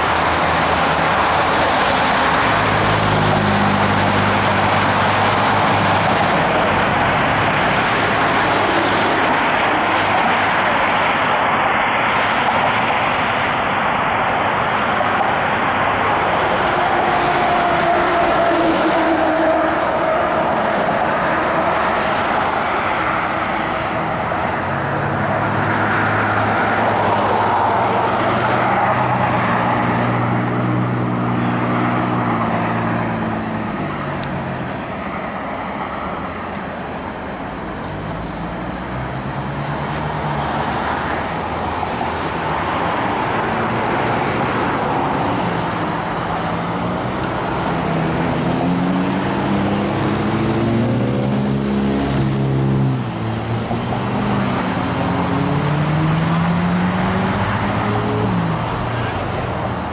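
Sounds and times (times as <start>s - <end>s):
vehicle engines humming: 0.0s - 59.9s.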